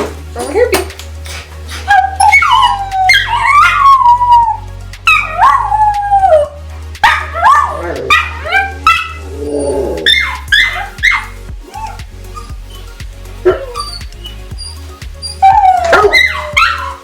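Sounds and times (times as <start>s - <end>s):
dogs yipping: 0.4s - 17.0s
dogs howling: 1.6s - 17.0s.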